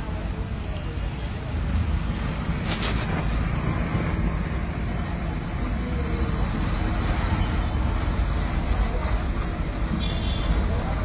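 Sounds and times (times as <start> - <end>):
low rumbling traffic noise: 0.0 - 11.0.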